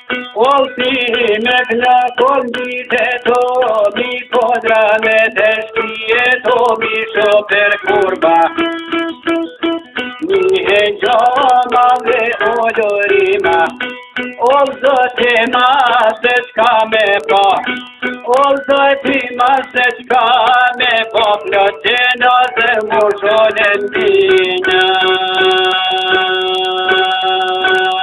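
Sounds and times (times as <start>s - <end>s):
plucked string instrument: 0.0s - 28.0s
man singing: 0.1s - 8.8s, 10.2s - 28.0s.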